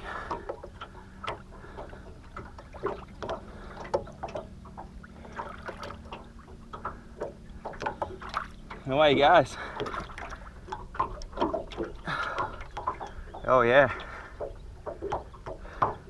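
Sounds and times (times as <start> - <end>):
steady low hum: 0.0 - 16.0
water splashing and sloshing: 0.0 - 16.0.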